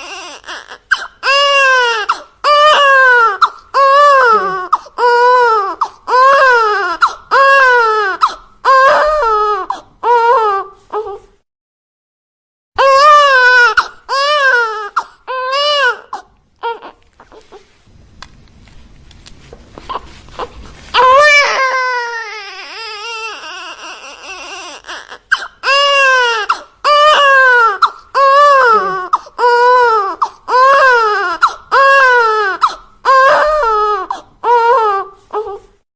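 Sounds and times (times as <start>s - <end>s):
infant crying: 0.0s - 11.3s, 12.8s - 17.6s, 19.9s - 35.7s.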